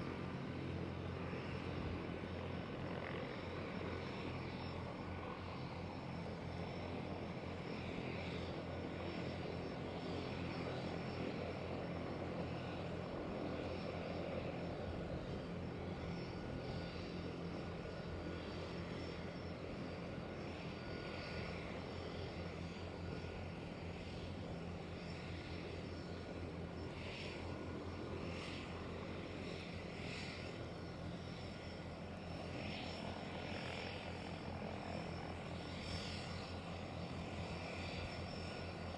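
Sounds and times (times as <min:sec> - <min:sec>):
propeller engine drone: 0:00.0 - 0:38.9.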